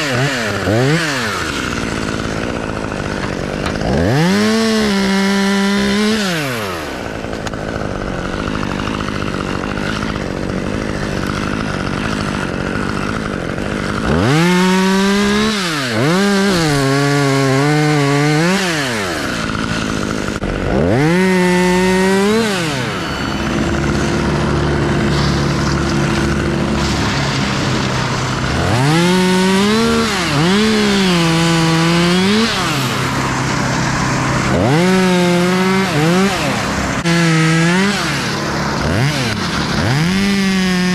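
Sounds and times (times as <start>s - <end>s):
chainsaw revving and cutting wood: 0.0s - 40.9s.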